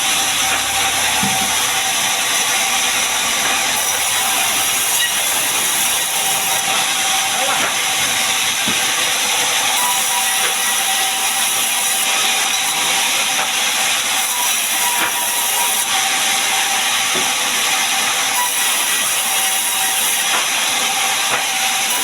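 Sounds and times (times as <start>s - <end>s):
saw blade cutting log: 0.0s - 22.0s.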